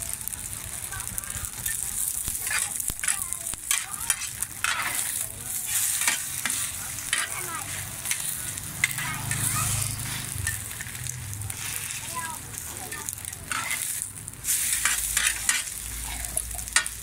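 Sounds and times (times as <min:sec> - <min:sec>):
food sizzling in oil: 0:00.0 - 0:17.0
metal spatulas scraping pan: 0:01.6 - 0:17.0.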